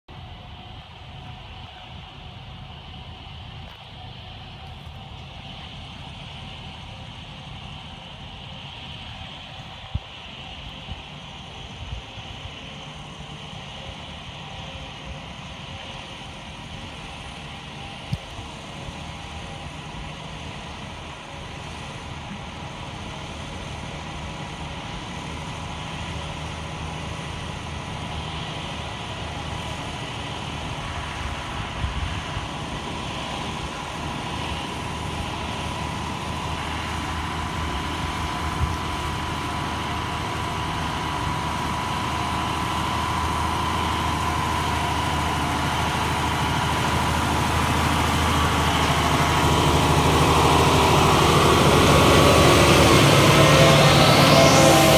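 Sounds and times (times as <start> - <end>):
diesel truck engine labouring uphill: 0.0 - 54.9.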